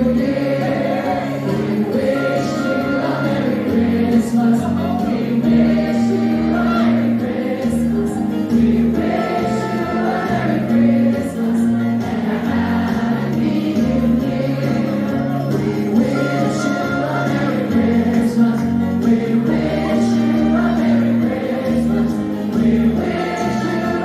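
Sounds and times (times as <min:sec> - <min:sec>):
choir singing a carol: 0:00.0 - 0:24.0
instrumental accompaniment with bass: 0:00.0 - 0:24.0.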